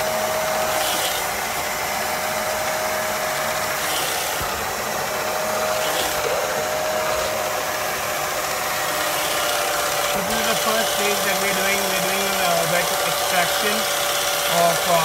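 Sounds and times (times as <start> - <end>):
carpet extractor motor whine: 0.0 - 15.0
suction tool hissing: 0.0 - 15.0.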